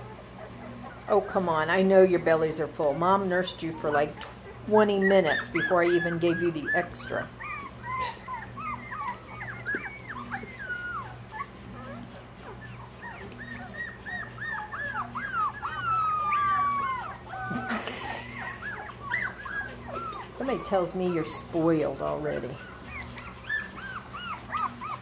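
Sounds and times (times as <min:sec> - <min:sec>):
puppies whining: 0:00.0 - 0:25.0.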